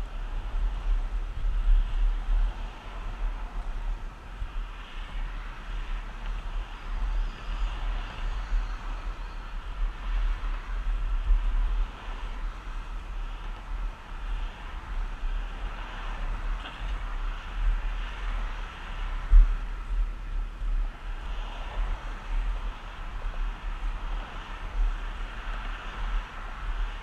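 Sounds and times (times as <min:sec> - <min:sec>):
cars passing: 0:00.0 - 0:27.0
wheels rolling on asphalt: 0:00.0 - 0:27.0
wind buffeting microphone: 0:00.0 - 0:27.0.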